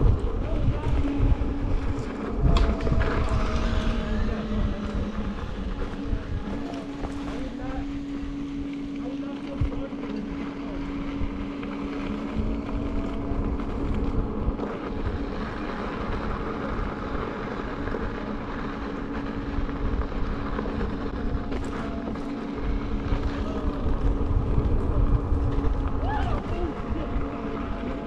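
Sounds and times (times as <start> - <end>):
steady hum: 0.0 - 28.0
wind buffeting microphone: 0.0 - 28.0.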